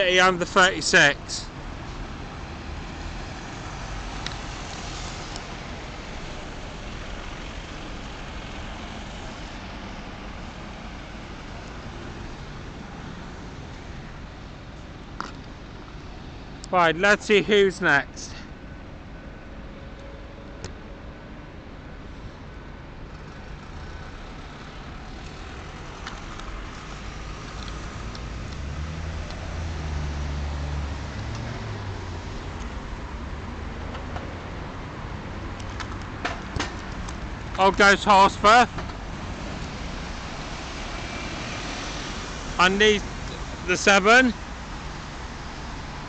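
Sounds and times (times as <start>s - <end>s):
road traffic noise: 0.0s - 46.0s
vehicle engine rumble: 0.0s - 46.0s.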